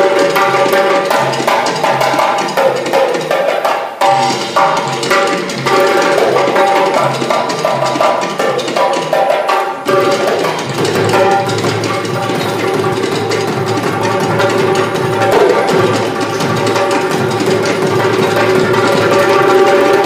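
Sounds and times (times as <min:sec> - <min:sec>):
goblet drum played solo: 0:00.0 - 0:20.0.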